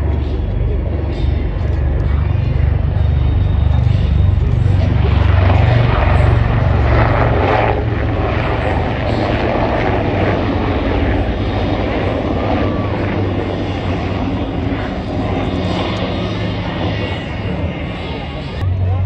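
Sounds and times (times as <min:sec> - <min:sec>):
low-flying aircraft rumble: 0:00.0 - 0:19.0.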